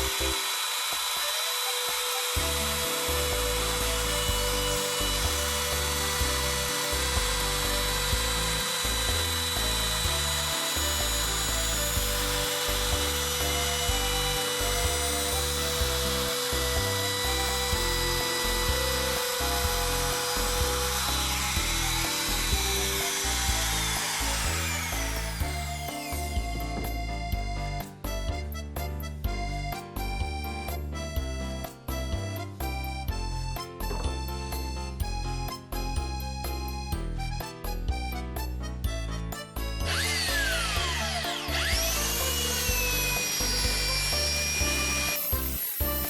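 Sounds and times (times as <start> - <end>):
background music: 0.0 - 46.0
power tool motor whining: 0.0 - 46.0.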